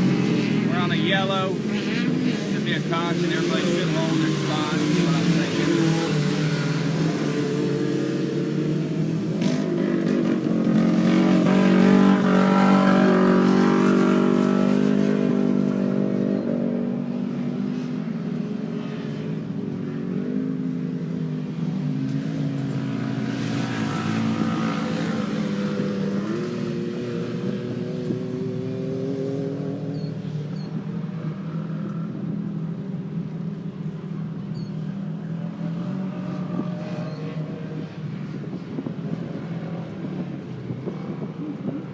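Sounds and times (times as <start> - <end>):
race vehicle engines droning: 0.0 - 41.9.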